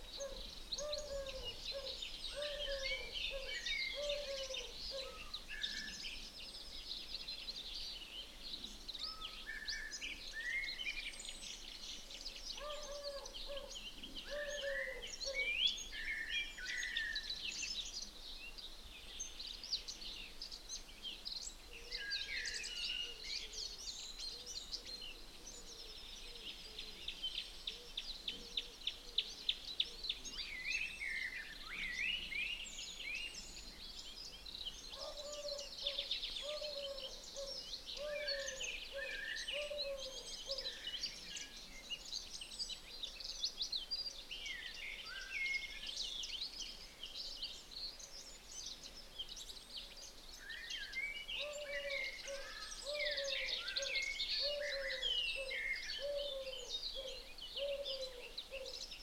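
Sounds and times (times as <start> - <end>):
songbirds chirping and whistling: 0.0 - 59.0.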